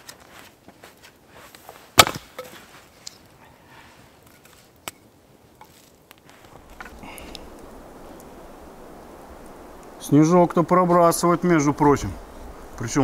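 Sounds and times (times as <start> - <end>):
small scattered crackles: 0.0 - 13.0.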